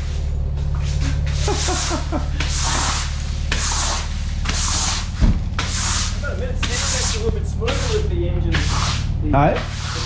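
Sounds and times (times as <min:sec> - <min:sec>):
low mechanical hum: 0:00.0 - 0:10.0
push broom sweeping plastic sheet: 0:00.8 - 0:10.0.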